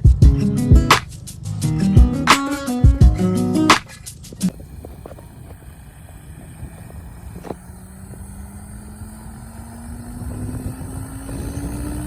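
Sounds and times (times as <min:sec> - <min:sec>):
helicopter motor and rotor hum: 0:00.0 - 0:12.0.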